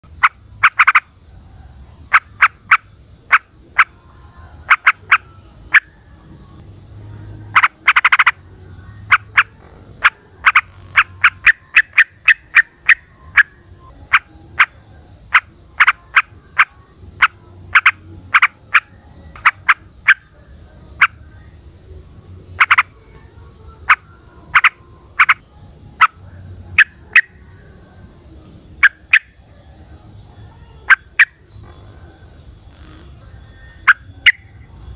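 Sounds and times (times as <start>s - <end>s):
pulsing insect chirring: 0.0s - 34.9s.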